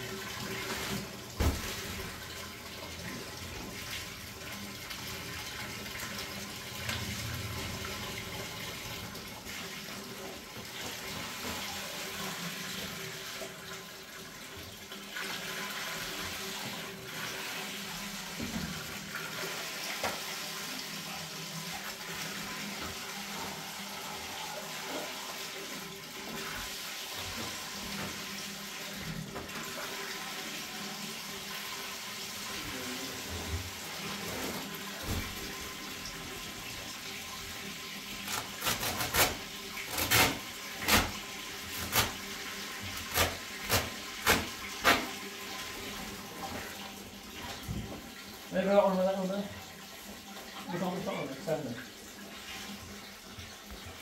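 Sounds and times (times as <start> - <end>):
water pouring into metal barrel: 0.0 - 54.0.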